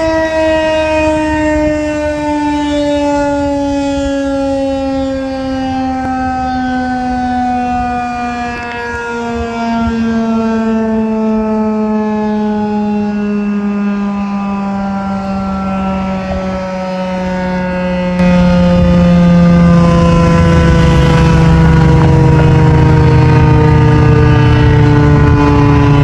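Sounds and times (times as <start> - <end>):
warning siren winding down: 0.0 - 26.0.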